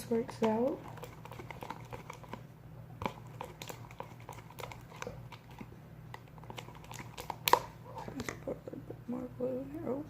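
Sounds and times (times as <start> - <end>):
sticky slime squelches: 0.0 - 8.3.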